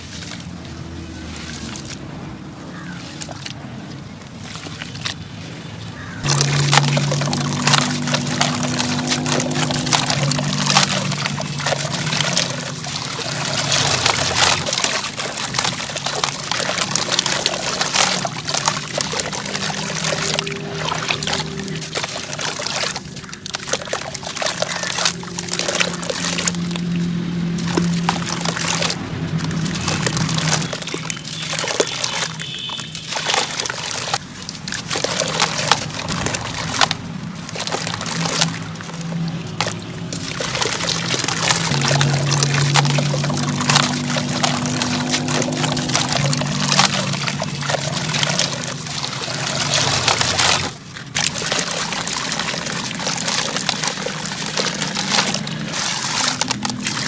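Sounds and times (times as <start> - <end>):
sand and cement crumbling: 6.0 - 57.0.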